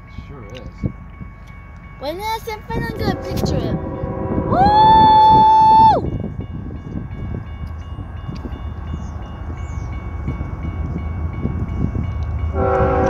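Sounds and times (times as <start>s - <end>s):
crossing warning bell ringing: 0.0s - 5.4s, 6.0s - 13.0s
diesel locomotives rumbling: 0.0s - 13.0s.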